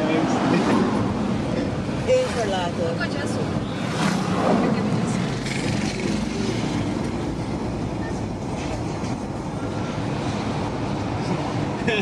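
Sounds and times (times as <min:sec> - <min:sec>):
vehicle road noise: 0:00.0 - 0:12.0.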